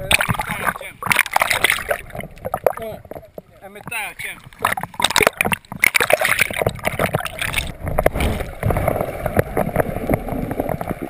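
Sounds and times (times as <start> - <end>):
muffled underwater gurgling: 0.0 - 11.0
seawater splashing: 0.0 - 11.0.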